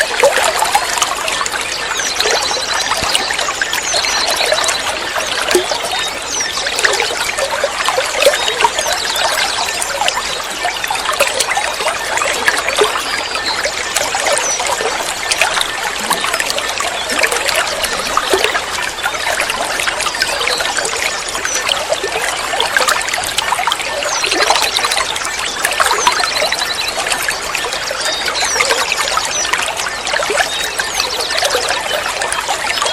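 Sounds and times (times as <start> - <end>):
water trickling and splashing: 0.0 - 32.9.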